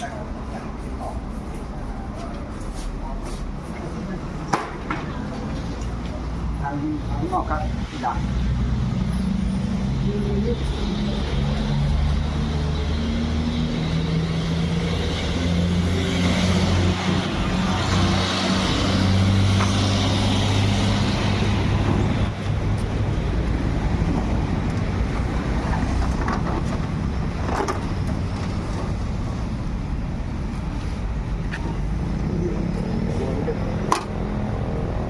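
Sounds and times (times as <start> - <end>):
road noise: 0.0 - 35.0
vehicle engine hum: 0.0 - 35.0.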